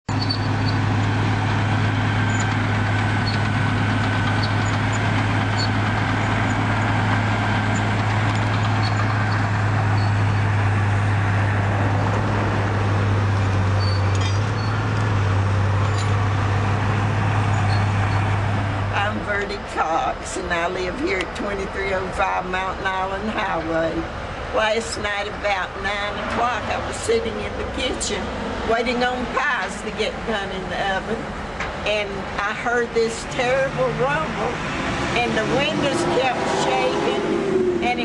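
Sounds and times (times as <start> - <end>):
diesel engine idling: 0.1 - 38.0.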